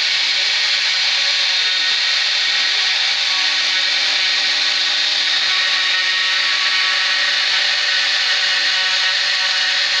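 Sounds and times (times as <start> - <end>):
router spindle motor whine: 0.0 - 10.0.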